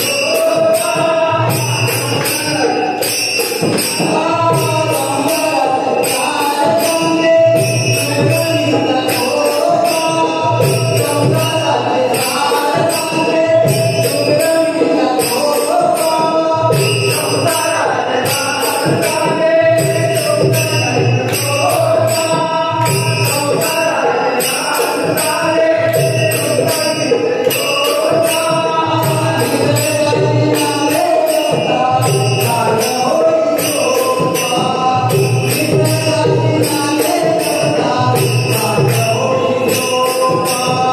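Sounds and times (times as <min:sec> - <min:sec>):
people singing devotional chant: 0:00.0 - 0:40.9
small hand cymbals jingling: 0:00.0 - 0:40.9.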